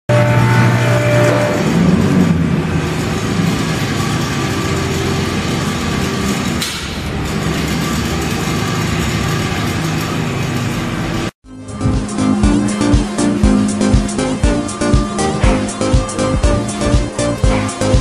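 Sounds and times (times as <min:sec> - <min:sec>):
steady mechanical drone: 0:00.1 - 0:18.0.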